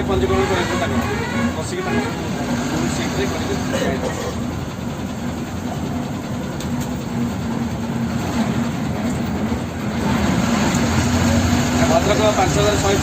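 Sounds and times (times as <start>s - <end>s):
heavy vehicle rumbling: 0.0s - 13.0s.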